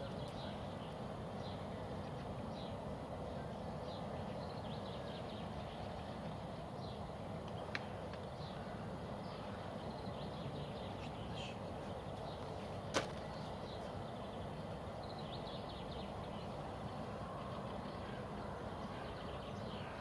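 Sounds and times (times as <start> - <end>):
low outdoor background noise: 0.0 - 20.0.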